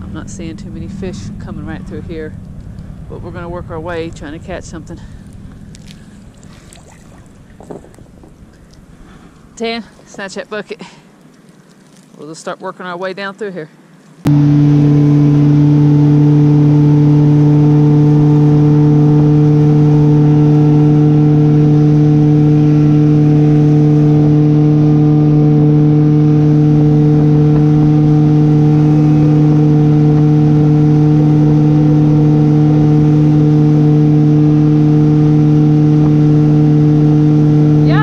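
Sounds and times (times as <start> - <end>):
outboard motor droning: 0.0 - 10.0, 14.3 - 38.0.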